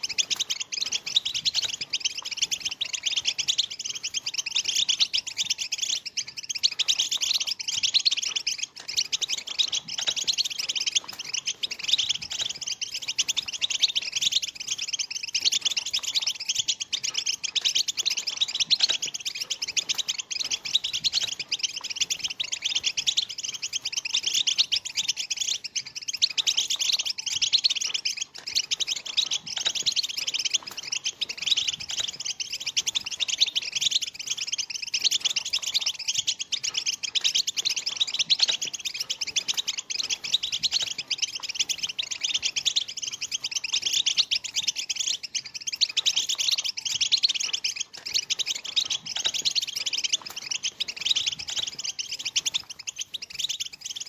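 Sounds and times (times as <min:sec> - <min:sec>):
finches twittering: 0:00.0 - 0:54.0.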